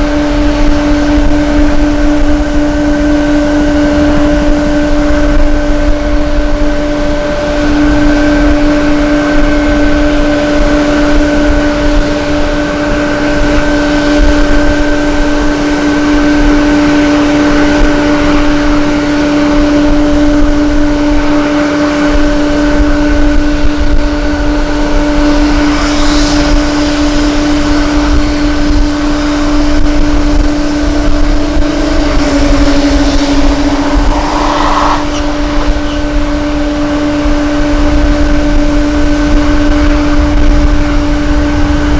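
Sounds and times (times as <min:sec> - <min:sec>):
mechanical hum: 0:00.0 - 0:41.9
wind rumble on microphone: 0:00.0 - 0:41.9.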